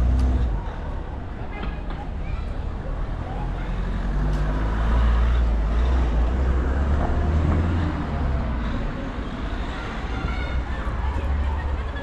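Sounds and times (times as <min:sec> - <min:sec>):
vehicle engine rumble passing: 0:02.2 - 0:12.0.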